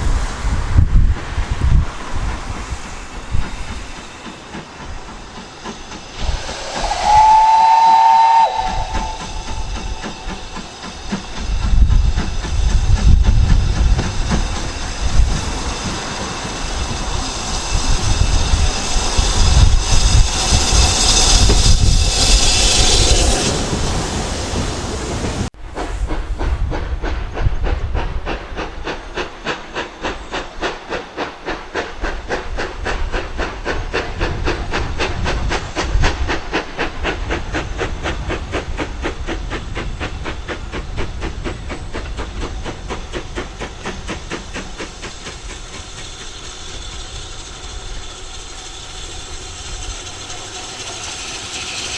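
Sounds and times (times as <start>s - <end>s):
steam hissing: 0.0s - 51.9s
train running with even beat: 0.0s - 51.9s.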